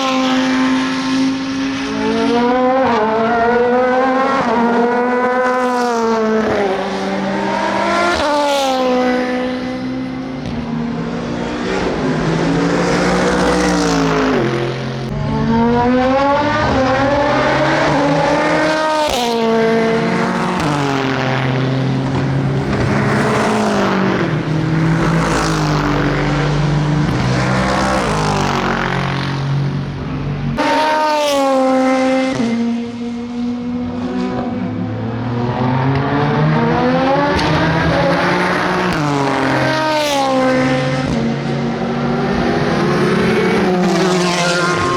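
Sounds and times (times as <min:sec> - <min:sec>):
racing car engines: 0:00.0 - 0:44.9.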